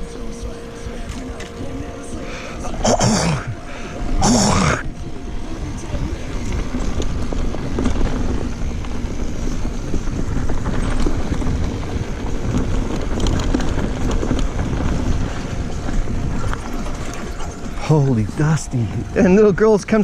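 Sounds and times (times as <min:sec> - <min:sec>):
bike tyres rolling over dirt: 0:00.0 - 0:20.0
wind rumble on microphone: 0:00.0 - 0:20.0
bike rattles and clicks: 0:02.9 - 0:20.0.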